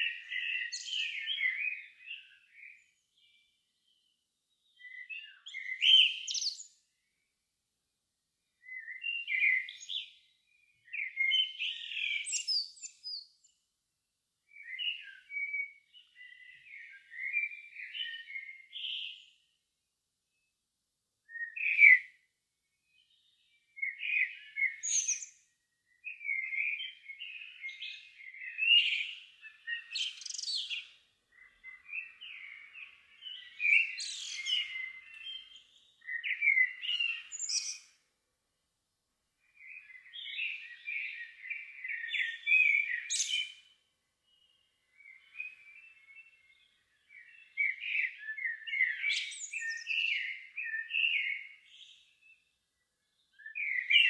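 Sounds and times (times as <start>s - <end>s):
songbird chirping: 0.0s - 7.5s, 8.3s - 13.8s, 14.4s - 19.7s, 21.2s - 38.5s, 39.2s - 54.0s.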